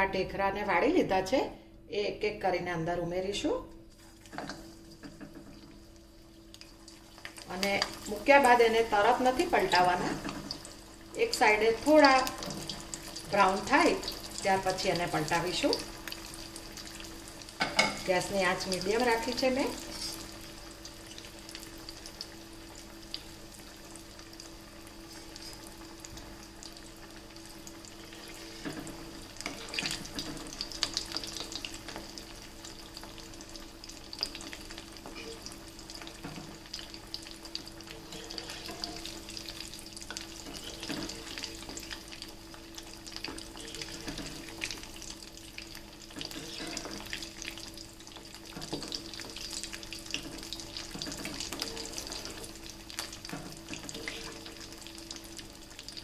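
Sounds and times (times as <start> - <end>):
dumplings sizzling in hot oil: 3.9 - 56.0
spatula moving through oil: 3.9 - 56.0.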